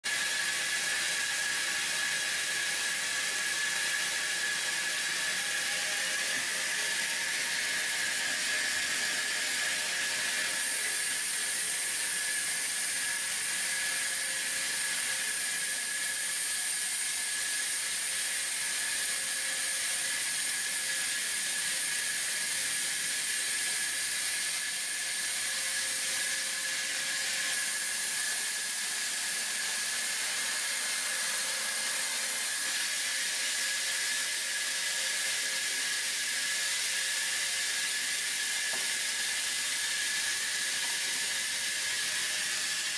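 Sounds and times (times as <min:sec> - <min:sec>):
band saw cutting wood: 0:00.0 - 0:42.9.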